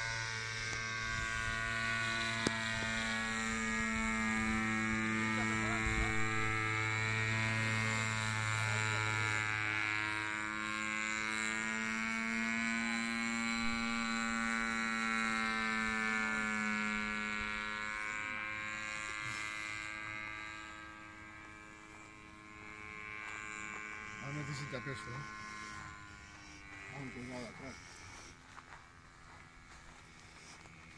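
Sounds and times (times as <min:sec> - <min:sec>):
small engine droning: 0:00.0 - 0:30.9.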